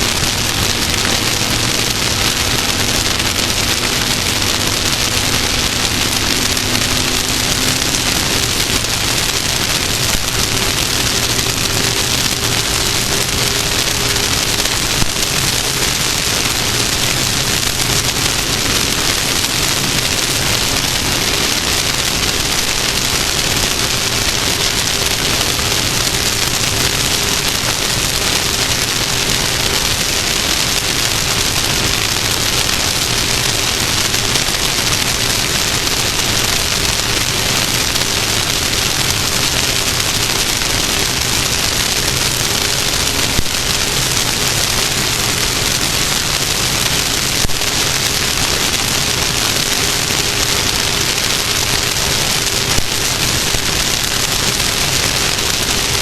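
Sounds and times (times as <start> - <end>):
wind and road noise hiss: 0.0 - 56.0.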